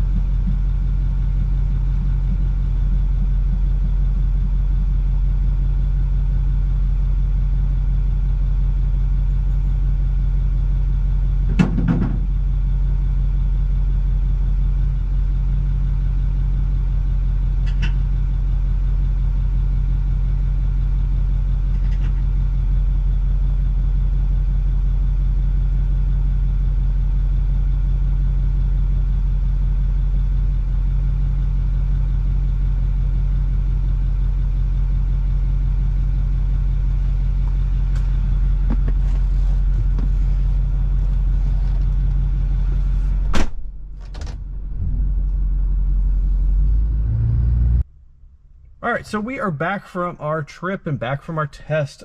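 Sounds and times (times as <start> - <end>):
diesel engine idling: 0.0 - 11.6, 12.2 - 51.8
low rumble: 0.0 - 21.7, 26.1 - 50.4.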